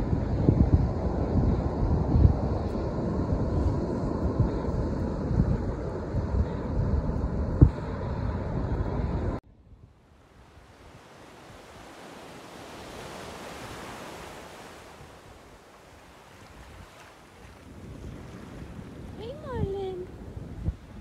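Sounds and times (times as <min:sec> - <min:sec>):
ocean surf on beach: 0:00.0 - 0:21.0
wind buffeting microphone: 0:00.0 - 0:21.0.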